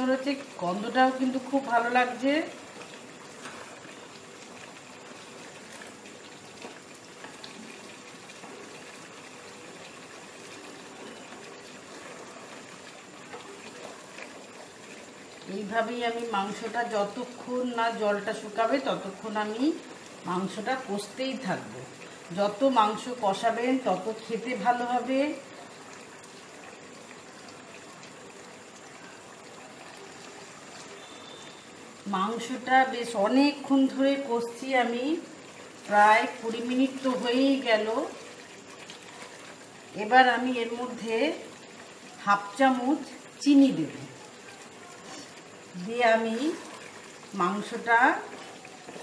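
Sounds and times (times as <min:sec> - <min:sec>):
meat sizzling and bubbling in a pan: 0:00.0 - 0:49.0.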